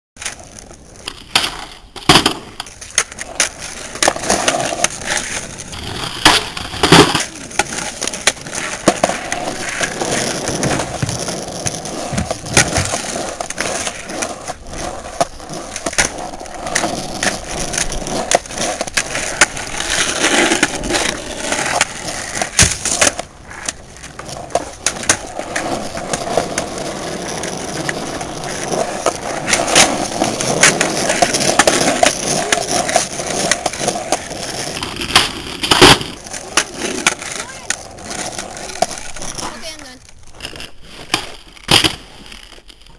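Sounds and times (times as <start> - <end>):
skateboard wheels rolling on asphalt: 0.2 - 42.9
skateboard wooden clacks: 0.2 - 42.9.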